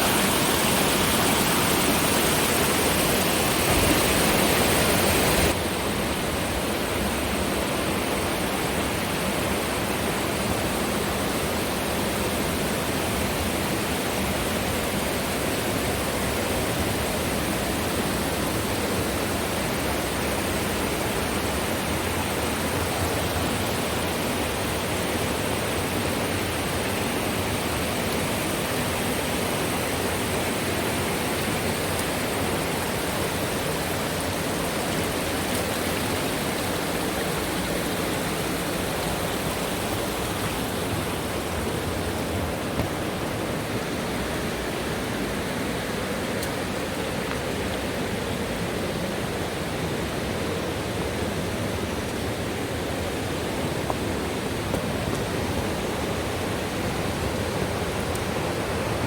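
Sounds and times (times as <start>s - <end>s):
roar of rushing white water: 0.0s - 59.0s.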